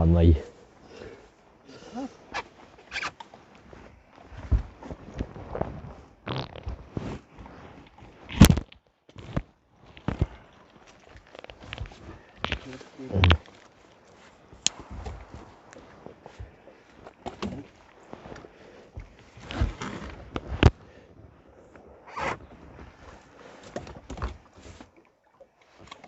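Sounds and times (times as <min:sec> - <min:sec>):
fishing net rustling and scraping: 0:02.2 - 0:21.0, 0:21.8 - 0:25.0.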